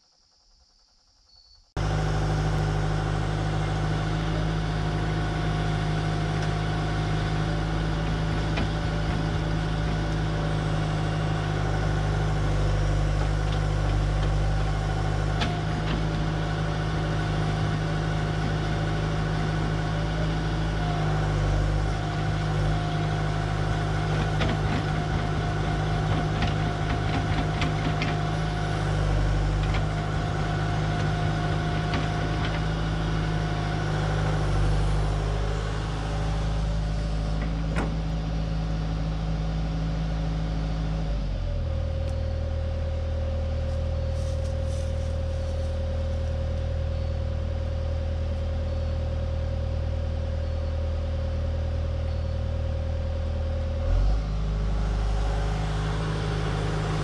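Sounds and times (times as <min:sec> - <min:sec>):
excavator diesel engine running: 0:01.8 - 0:57.0.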